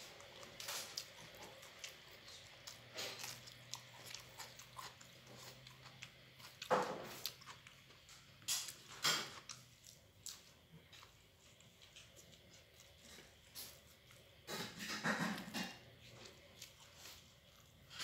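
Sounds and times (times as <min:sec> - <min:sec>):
man chewing with smacks: 0:00.0 - 0:18.0.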